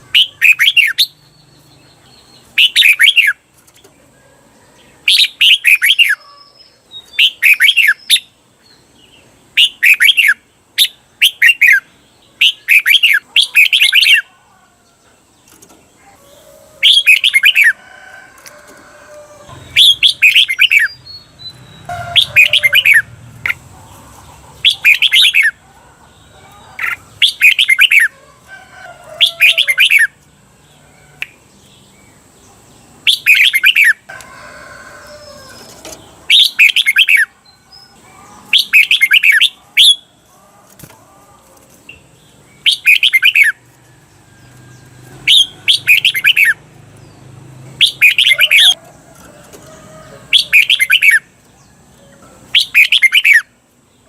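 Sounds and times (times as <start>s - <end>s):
bulbul singing warbled song: 0.0s - 17.8s, 18.6s - 28.4s, 29.1s - 34.1s, 35.0s - 40.9s, 41.6s - 54.0s.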